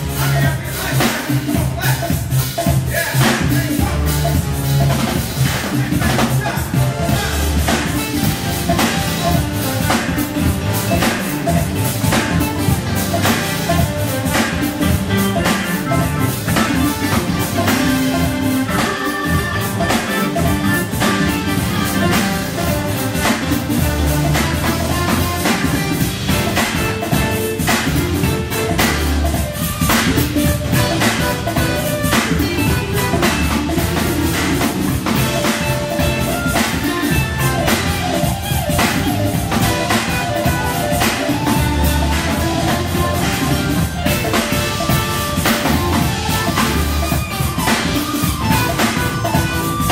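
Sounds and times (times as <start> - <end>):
drum kit steady beat: 0.0 - 49.9
electric guitar: 0.0 - 49.9
organ: 0.0 - 49.9.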